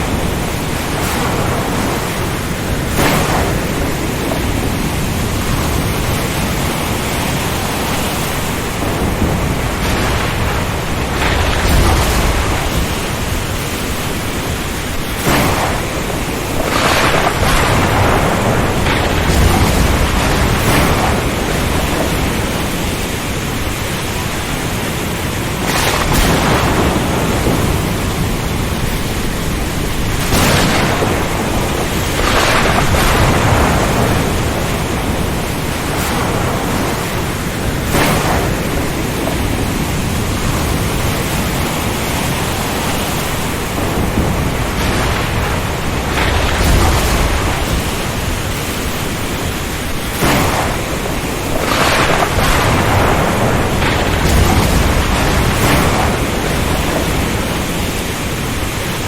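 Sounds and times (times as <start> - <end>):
rain: 0.0 - 59.0
surf: 0.0 - 59.0
thunder rumbles: 0.0 - 59.0
wind: 0.0 - 59.0.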